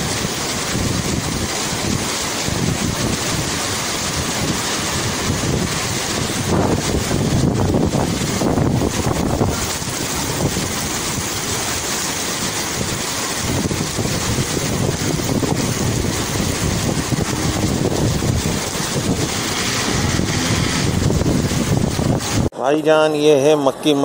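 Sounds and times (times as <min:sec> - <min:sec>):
heavy rain pouring: 0:00.0 - 0:22.5
wind buffeting microphone: 0:00.0 - 0:22.5.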